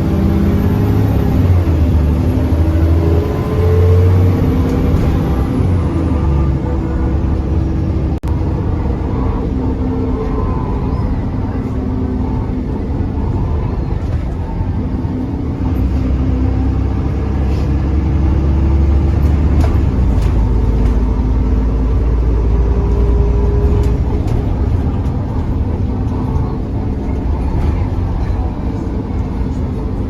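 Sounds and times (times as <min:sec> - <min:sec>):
bus diesel engine under load: 0:00.0 - 0:30.0.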